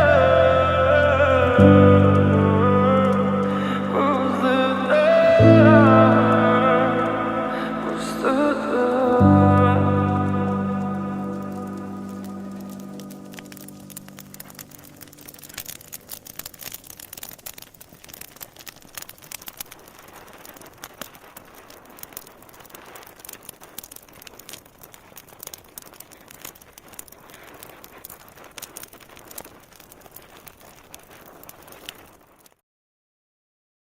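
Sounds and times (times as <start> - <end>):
wood fire crackling: 0.0 - 32.6.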